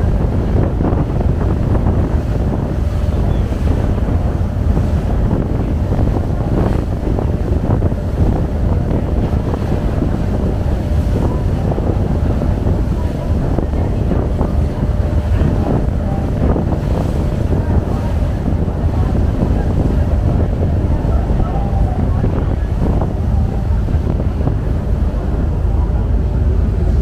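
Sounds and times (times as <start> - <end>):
ferry engine low rumble: 0.0 - 27.0
rushing water: 0.0 - 27.0
wind buffeting microphone: 0.0 - 27.0.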